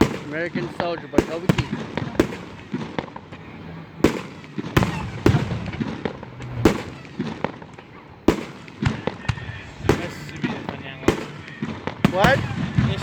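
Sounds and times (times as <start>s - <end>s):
fireworks booming: 0.0s - 13.0s
fireworks popping and crackling: 0.0s - 13.0s.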